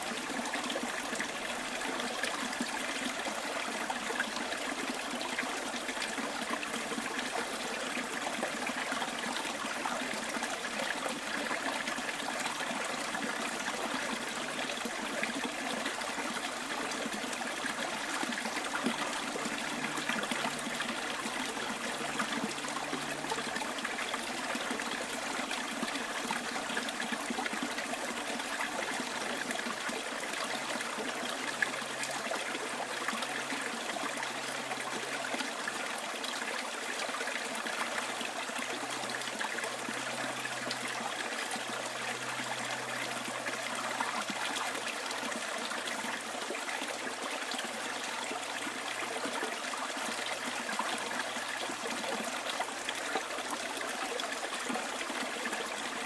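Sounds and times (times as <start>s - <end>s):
stream trickling and babbling: 0.0s - 56.0s.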